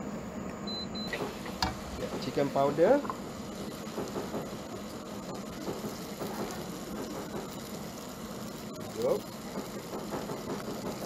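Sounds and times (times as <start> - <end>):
noodles sizzling in a wok: 1.1 - 11.0.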